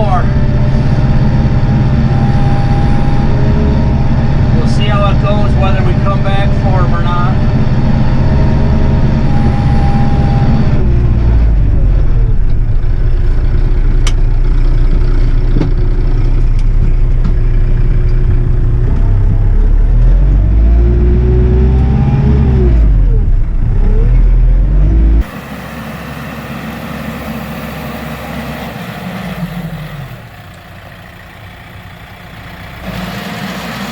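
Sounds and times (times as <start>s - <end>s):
tractor diesel engine revving: 0.0s - 33.9s.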